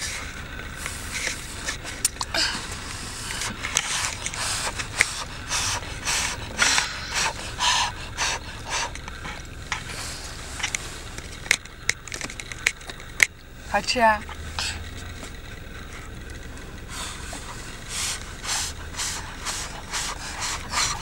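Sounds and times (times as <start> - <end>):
low hum inside car: 0.0 - 21.0.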